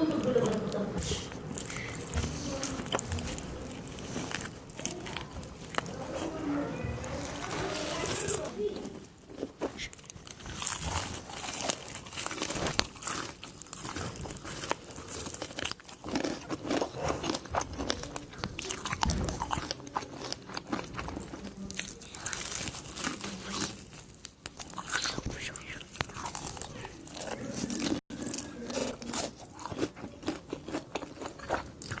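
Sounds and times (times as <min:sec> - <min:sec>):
crunchy food chewing: 0:00.0 - 0:32.0.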